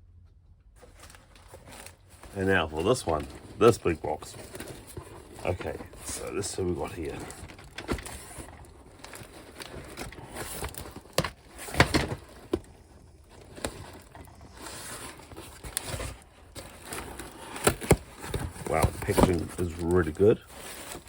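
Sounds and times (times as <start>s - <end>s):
cardboard box being opened: 0.8s - 21.0s
packing material rustling: 0.8s - 21.0s.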